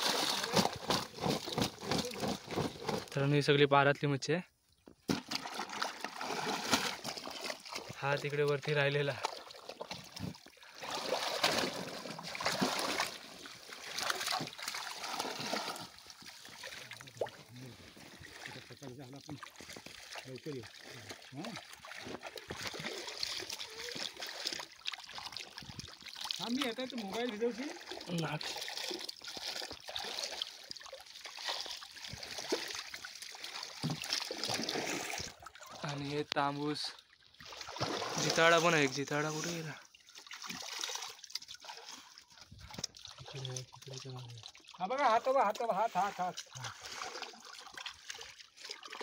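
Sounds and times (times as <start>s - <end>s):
fish splashing in water: 0.0s - 3.1s, 5.1s - 8.0s, 9.2s - 35.8s, 37.4s - 38.7s, 39.9s - 44.8s, 46.5s - 49.0s.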